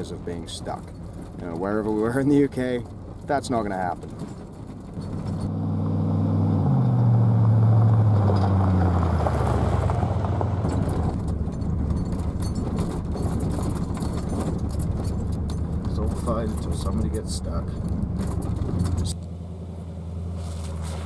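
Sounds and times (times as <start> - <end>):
truck engine running: 0.0 - 21.0
tyres rumbling on gravel: 0.0 - 21.0.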